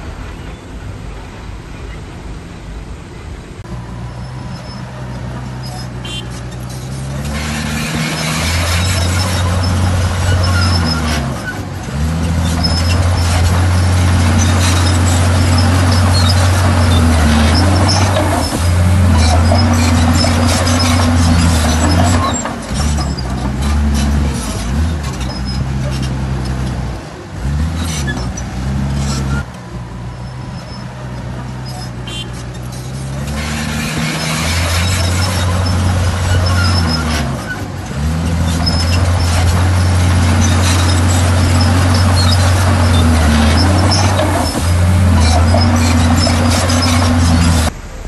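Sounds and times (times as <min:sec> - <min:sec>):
bulldozer diesel engine: 0:00.0 - 0:48.0
steel tracks scraping and squealing: 0:03.6 - 0:48.0.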